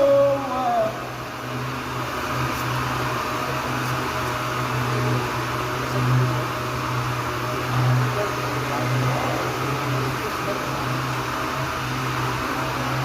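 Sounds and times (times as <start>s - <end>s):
power sander running: 0.0s - 13.0s.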